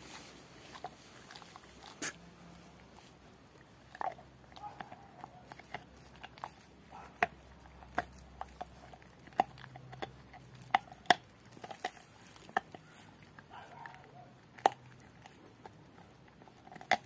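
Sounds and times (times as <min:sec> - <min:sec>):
dog gnawing a bone: 0:00.0 - 0:17.0.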